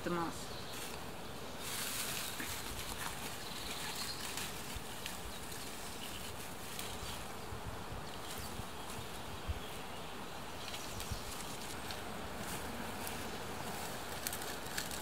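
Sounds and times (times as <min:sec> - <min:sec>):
insects buzzing: 0:00.0 - 0:15.0
dry twigs crackling and rustling: 0:00.1 - 0:09.9, 0:10.5 - 0:15.0.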